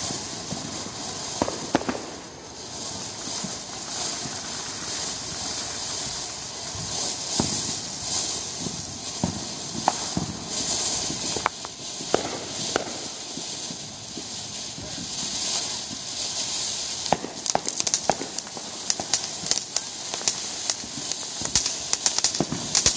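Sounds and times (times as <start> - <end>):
firework crackling pops: 0.0 - 22.9
firework fountain hissing: 0.0 - 22.9.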